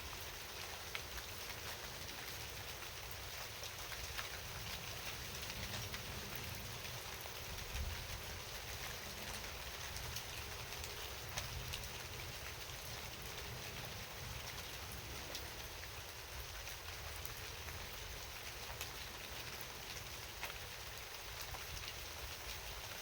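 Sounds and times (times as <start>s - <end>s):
rainfall hiss: 0.0s - 23.0s
raindrop ticks: 0.5s - 23.0s.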